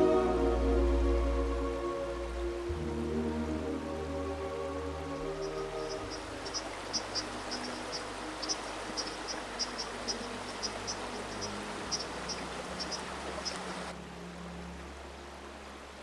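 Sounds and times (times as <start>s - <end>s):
faint background music: 0.0s - 16.0s
river water rushing: 0.0s - 16.0s.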